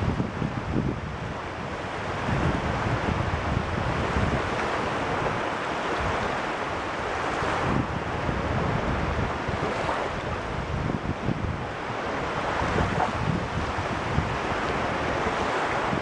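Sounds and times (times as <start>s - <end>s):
waves washing on shore: 0.0s - 16.0s
wind rumbling on microphone: 0.0s - 16.0s.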